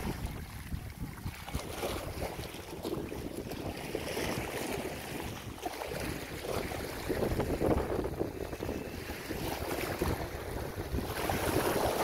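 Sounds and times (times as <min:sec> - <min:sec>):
small waves lapping: 0:00.0 - 0:12.0
wind buffeting microphone: 0:00.0 - 0:12.0.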